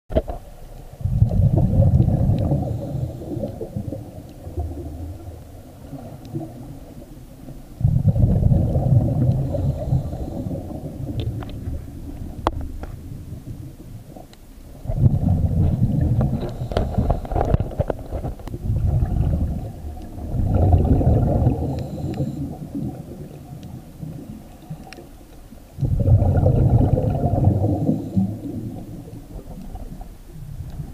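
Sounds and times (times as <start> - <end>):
underwater exhaust bubbles: 0.1 - 30.9.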